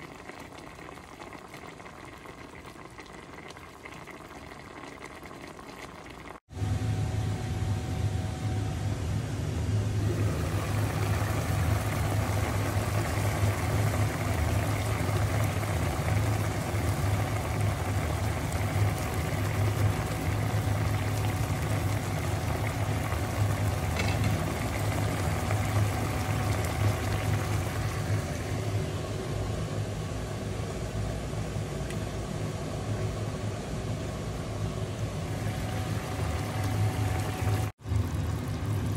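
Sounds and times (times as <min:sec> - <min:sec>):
pot boiling and bubbling: 0:00.0 - 0:38.9
low hum: 0:06.5 - 0:38.9.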